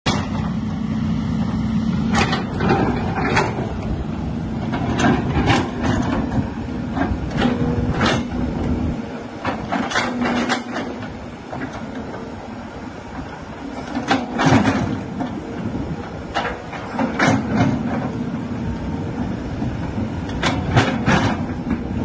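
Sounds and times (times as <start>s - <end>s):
excavator diesel engine running: 0.1s - 22.0s.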